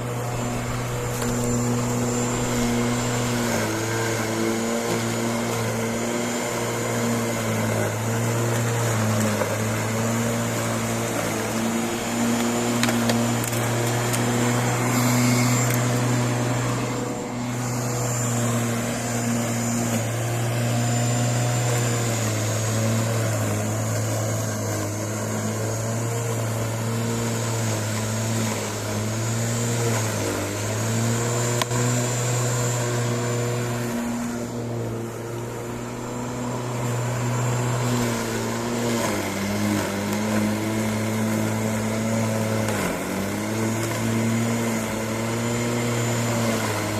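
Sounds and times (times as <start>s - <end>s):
electric grass cutter motor humming: 0.0s - 46.9s.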